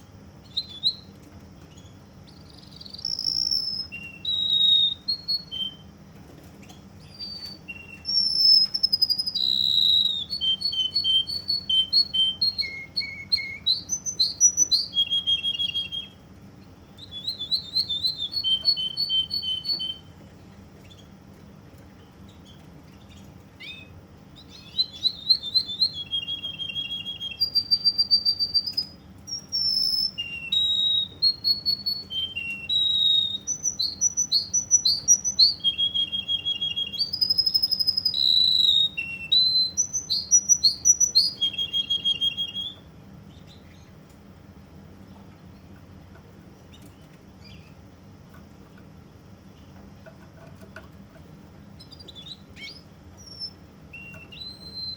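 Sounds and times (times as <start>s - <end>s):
canary singing trills: 0.0s - 44.1s, 45.0s - 54.9s.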